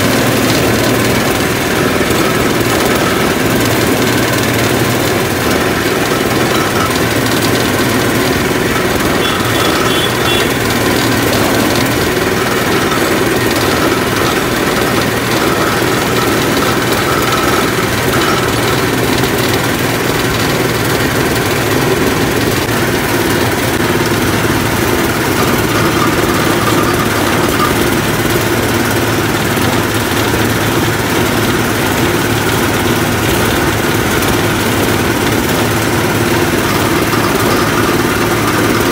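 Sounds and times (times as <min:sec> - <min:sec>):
motorized juice press crushing cane: 0:00.0 - 0:38.9.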